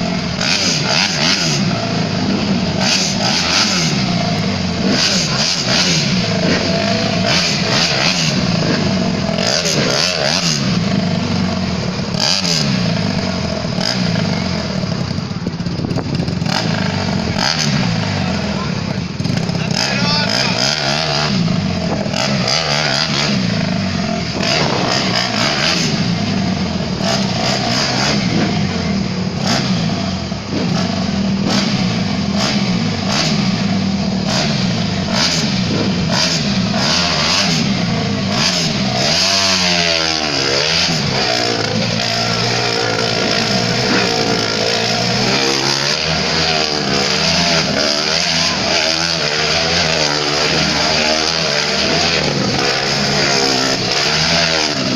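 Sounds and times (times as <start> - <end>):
motorcycle engines revving: 0.0 - 54.9.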